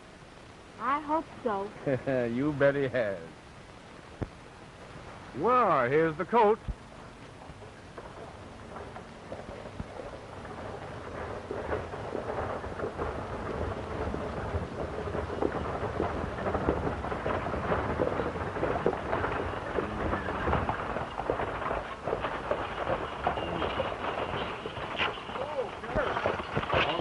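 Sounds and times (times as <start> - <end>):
sharp crackles: 0.0 - 27.0
stagecoach rumbling and clattering: 5.4 - 27.0.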